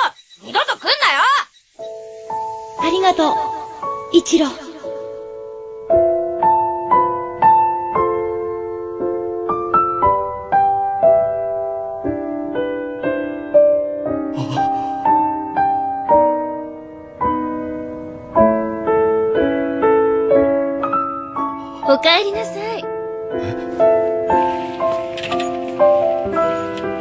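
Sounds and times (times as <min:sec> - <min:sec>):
soft piano music: 0:01.7 - 0:27.0.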